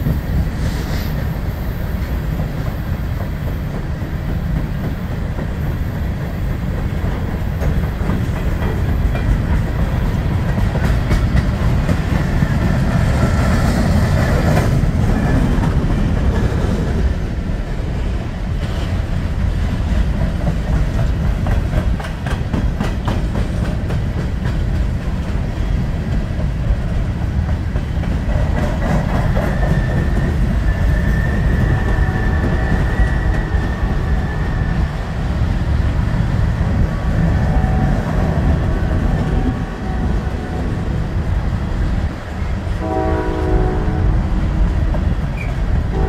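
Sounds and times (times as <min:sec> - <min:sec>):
train wheels rumbling on rail: 0:00.0 - 0:46.0
wheels clacking over rail joints: 0:02.0 - 0:17.2, 0:18.4 - 0:40.6.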